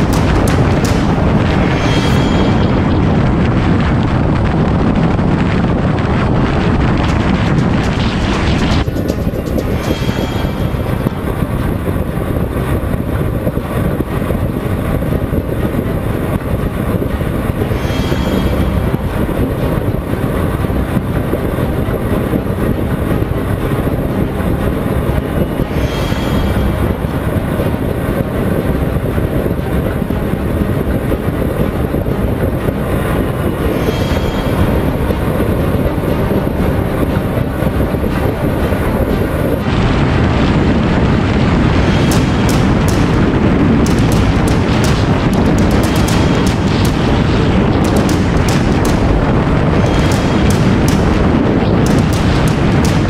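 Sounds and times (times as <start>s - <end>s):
wind rushing on microphone: 0.0s - 53.0s.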